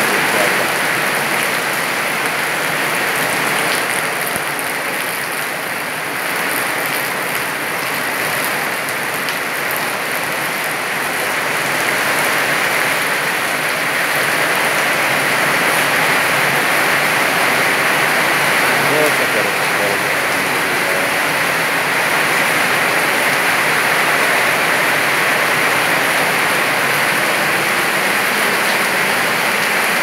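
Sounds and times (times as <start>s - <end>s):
heavy rain on leaves and ground: 0.0s - 30.0s.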